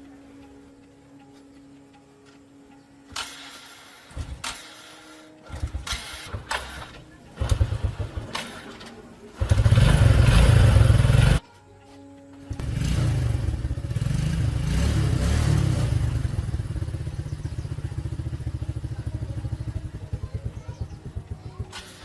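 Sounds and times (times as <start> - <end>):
small motorcycle engine: 3.1 - 11.4, 12.5 - 22.0.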